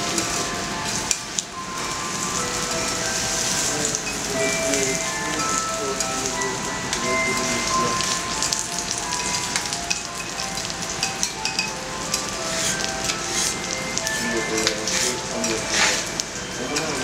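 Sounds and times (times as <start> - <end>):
beef sizzling on a griddle: 0.0 - 17.0.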